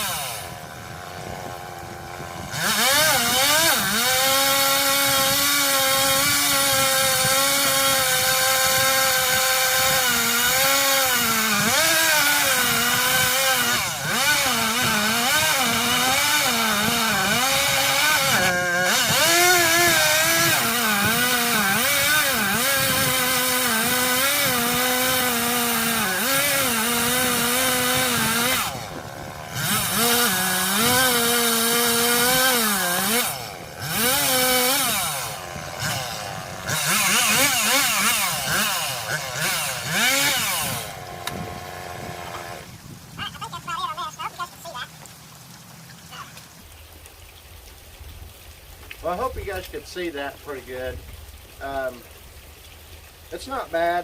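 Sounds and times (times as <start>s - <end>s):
chainsaw cutting wood: 0.0s - 44.8s, 48.8s - 54.0s.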